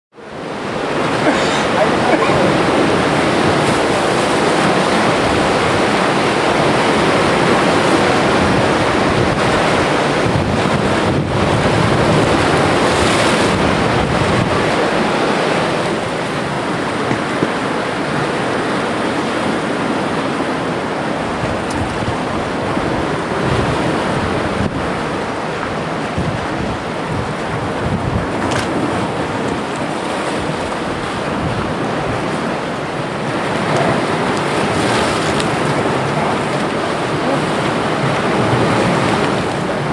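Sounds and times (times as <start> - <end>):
lake waves washing: 0.2 - 39.9
wind buffeting microphone: 0.4 - 39.9.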